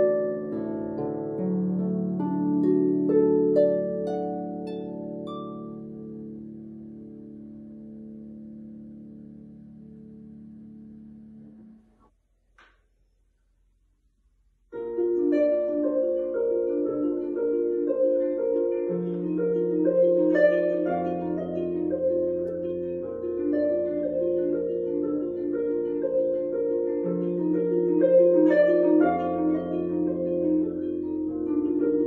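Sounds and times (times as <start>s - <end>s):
harp playing broken chords: 0.0s - 12.0s, 14.7s - 32.0s.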